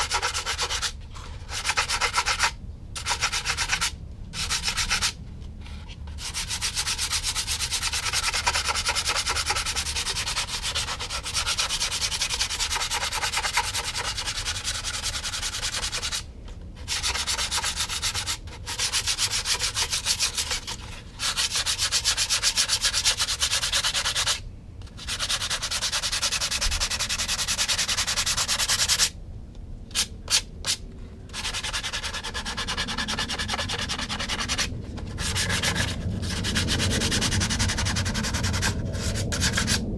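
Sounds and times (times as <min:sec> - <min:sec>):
sandpaper rubbing: 0:00.0 - 0:29.1, 0:29.9 - 0:39.8.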